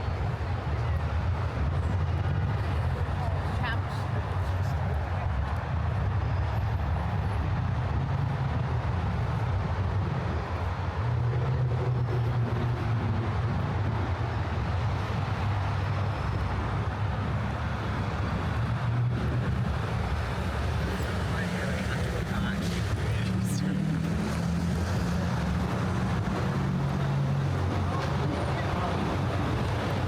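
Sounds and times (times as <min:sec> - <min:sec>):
city traffic rumble: 0:00.0 - 0:30.0.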